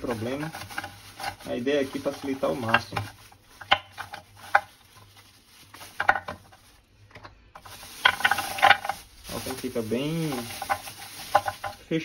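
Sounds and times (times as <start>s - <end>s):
ice cubes clattering: 0.0s - 6.7s, 7.6s - 11.9s
plastic bag crinkling: 0.0s - 12.0s.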